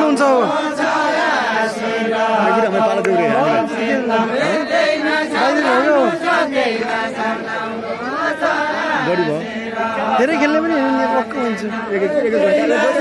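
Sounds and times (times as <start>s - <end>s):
people singing folk song: 0.0s - 13.0s.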